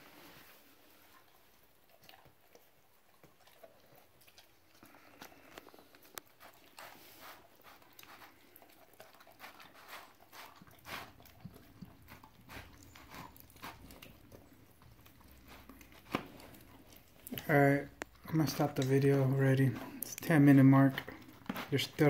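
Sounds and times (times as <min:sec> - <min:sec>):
dog crunching bones: 0:01.2 - 0:22.0.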